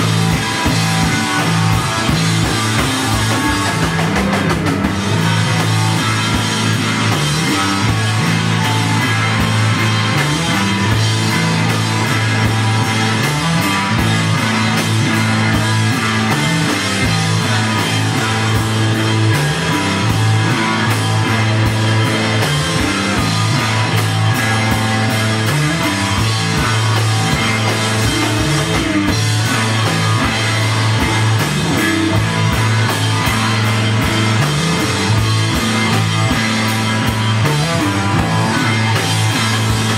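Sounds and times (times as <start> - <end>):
bass guitar: 0.0 - 39.9
distorted electric guitar: 0.0 - 39.9
drum kit: 0.0 - 39.9.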